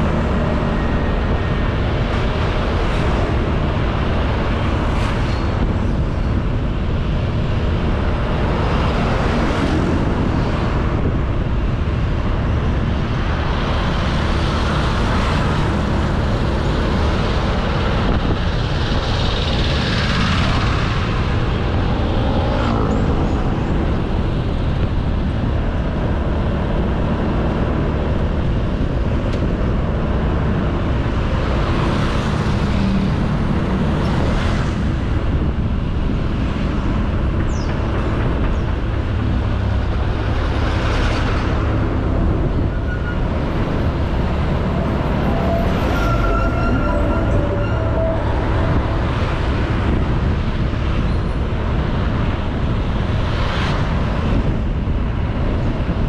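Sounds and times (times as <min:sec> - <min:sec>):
road noise: 0:00.0 - 0:56.0
wind rushing over microphone: 0:00.0 - 0:56.0.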